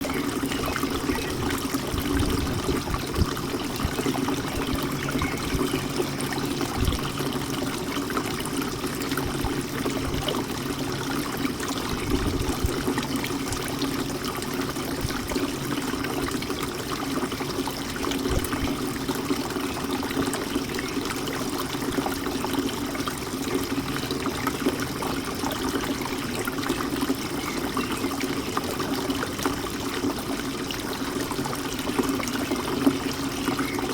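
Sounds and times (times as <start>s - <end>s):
fountain water trickling and splashing: 0.0s - 33.9s.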